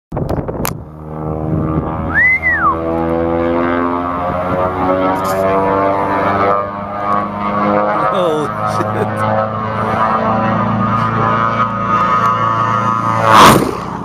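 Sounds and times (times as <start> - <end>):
propeller plane engine drone: 0.1 - 14.0
rising and falling tone: 0.2 - 14.0.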